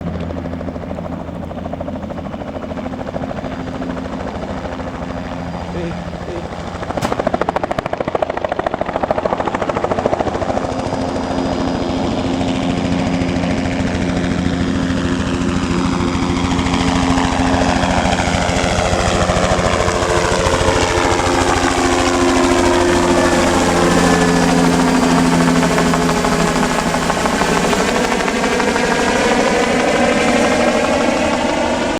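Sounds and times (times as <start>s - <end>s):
helicopter taking off: 0.0s - 31.9s.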